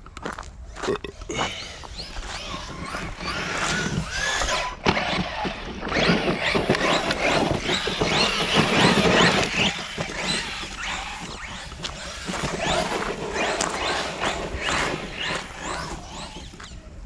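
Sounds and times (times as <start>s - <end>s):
electric motor whining: 1.2s - 17.0s
tyres rushing on ground: 1.4s - 17.0s.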